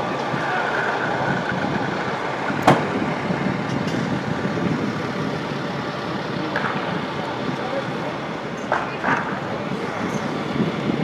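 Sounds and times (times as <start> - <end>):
dump truck engine running: 0.0 - 11.0.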